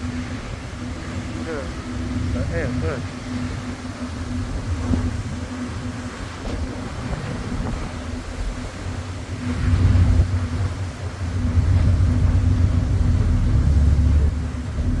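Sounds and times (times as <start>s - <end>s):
boat engine hum: 0.0s - 15.0s
wind buffeting microphone: 0.0s - 15.0s.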